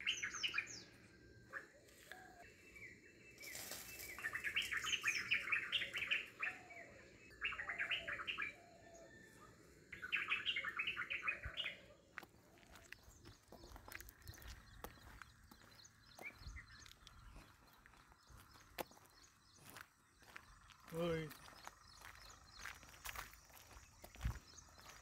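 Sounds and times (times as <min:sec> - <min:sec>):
small bird chirping: 0:00.0 - 0:25.0.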